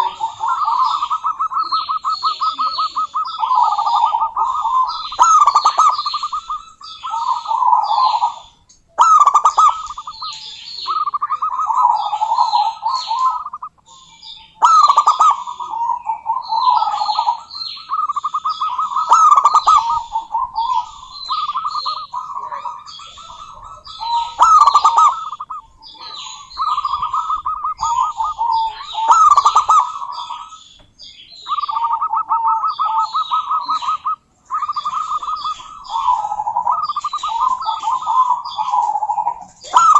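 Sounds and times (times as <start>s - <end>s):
dove cooing: 0.0s - 39.9s
high-pitched chirping: 0.0s - 39.9s.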